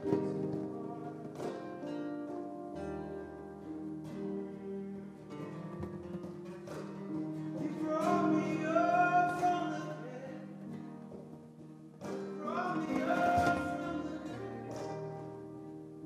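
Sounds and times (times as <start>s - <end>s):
acoustic guitars strumming: 0.0s - 16.0s
worship band playing: 0.0s - 16.0s.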